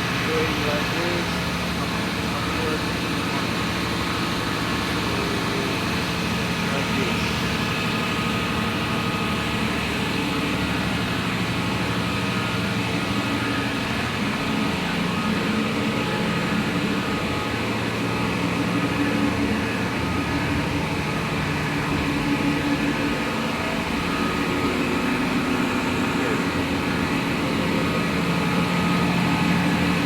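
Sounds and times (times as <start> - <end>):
engine room machinery drone: 0.0 - 30.0
steady hums: 0.0 - 30.0.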